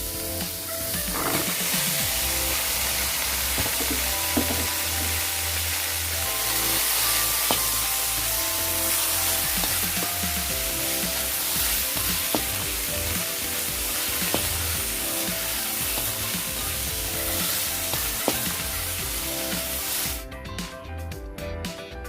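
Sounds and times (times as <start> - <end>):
food sizzling in a pan: 0.0 - 20.2
background music: 0.0 - 22.0.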